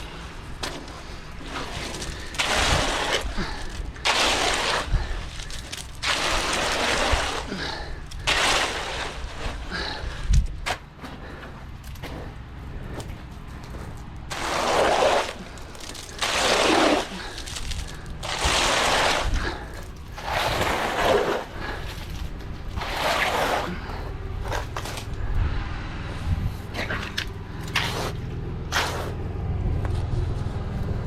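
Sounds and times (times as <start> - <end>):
wet concrete scraping and sloshing: 0.0 - 25.4, 26.4 - 29.2
low engine rumble: 0.0 - 31.0.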